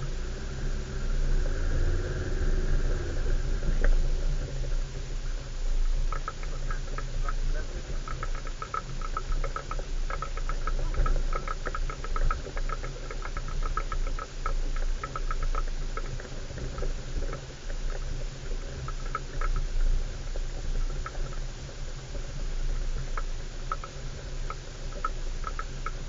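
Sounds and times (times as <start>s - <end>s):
vehicle engine humming: 0.0s - 23.1s
rapid clicking and rattling: 3.6s - 26.0s.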